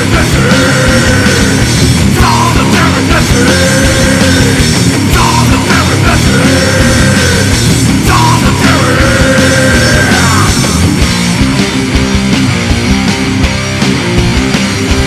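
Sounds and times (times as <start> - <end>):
heavy rock song: 0.0 - 15.0.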